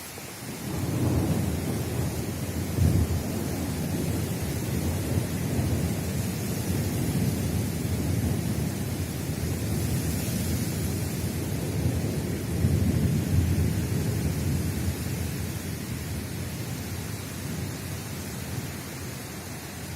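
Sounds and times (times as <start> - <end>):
rain hissing: 0.0 - 19.9
distant thunder rumbling: 0.6 - 18.8.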